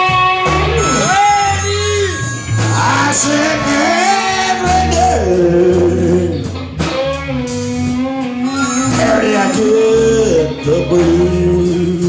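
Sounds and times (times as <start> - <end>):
bass line: 0.0 - 12.0
electric guitar bending notes: 0.0 - 12.0.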